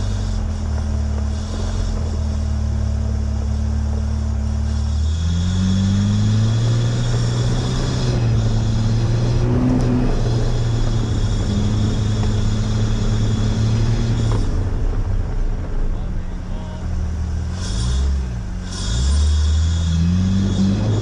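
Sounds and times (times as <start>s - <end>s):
small vehicle engine revving: 0.0s - 21.0s
tyres rolling over gravel: 0.0s - 21.0s.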